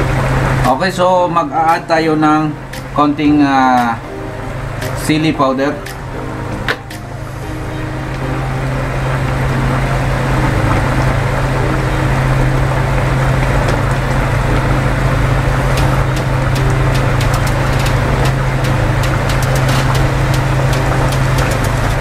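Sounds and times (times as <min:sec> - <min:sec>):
loud mechanical hum: 0:00.0 - 0:22.0
rushing noise: 0:00.0 - 0:22.0.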